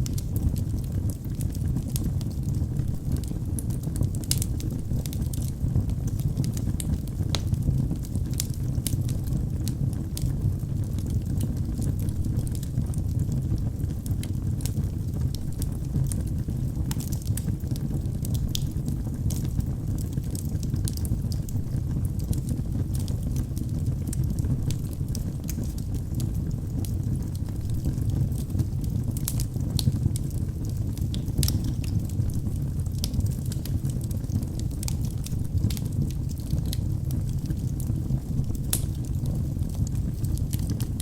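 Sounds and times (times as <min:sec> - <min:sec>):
fire flames rushing: 0:00.0 - 0:07.6, 0:10.9 - 0:41.0
fire crackling and popping: 0:00.0 - 0:41.0.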